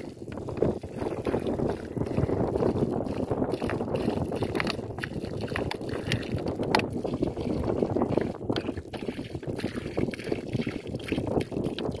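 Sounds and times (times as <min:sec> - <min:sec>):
water pouring from plastic bottle: 0:00.0 - 0:12.0.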